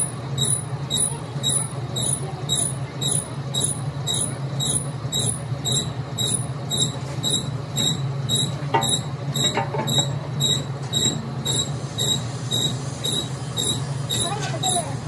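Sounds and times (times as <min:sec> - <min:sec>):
mechanical hum: 0:00.0 - 0:15.0
short high squeak: 0:00.4 - 0:14.4.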